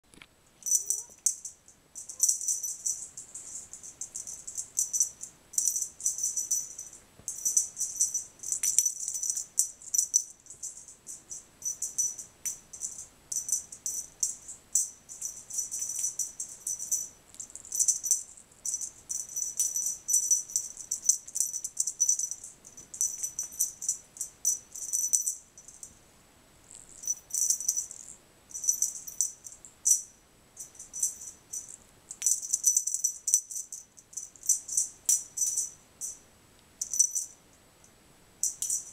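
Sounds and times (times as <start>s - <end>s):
jingle bell toy jingling: 0.6s - 25.9s, 26.8s - 36.2s, 36.8s - 37.4s, 38.4s - 38.9s.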